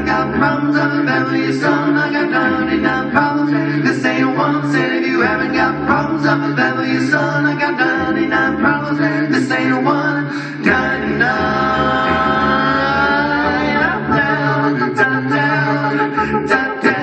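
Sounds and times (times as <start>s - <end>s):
male a cappella quartet singing: 0.0s - 17.0s.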